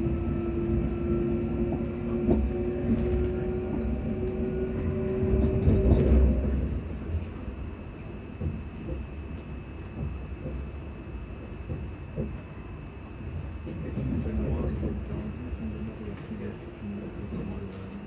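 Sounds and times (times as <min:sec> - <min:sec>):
low rumble of train wheels: 0:00.0 - 0:18.0.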